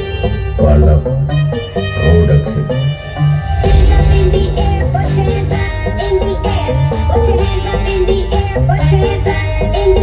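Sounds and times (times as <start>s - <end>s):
loud bass-heavy music: 0.0s - 10.0s.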